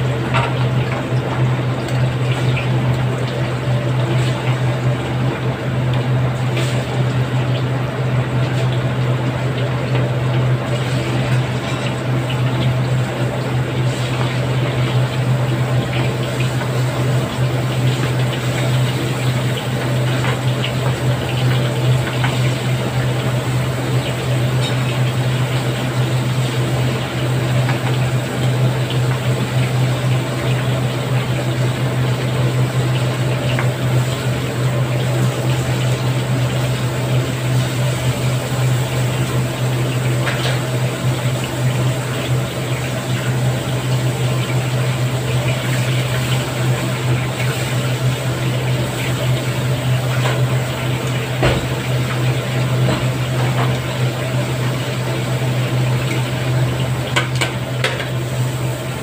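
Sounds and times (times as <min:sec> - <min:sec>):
oil sizzling and bubbling: 0:00.0 - 0:59.0.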